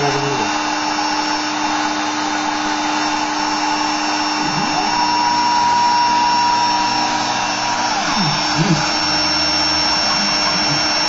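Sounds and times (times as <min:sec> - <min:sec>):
high machine whine: 0:00.0 - 0:11.0
low machine whine: 0:00.0 - 0:11.0
spindle motor whirring: 0:00.0 - 0:11.0.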